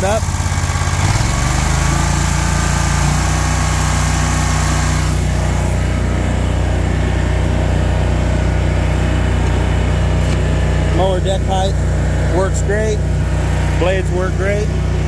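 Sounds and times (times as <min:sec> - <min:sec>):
mower engine revving and running: 0:00.0 - 0:15.0.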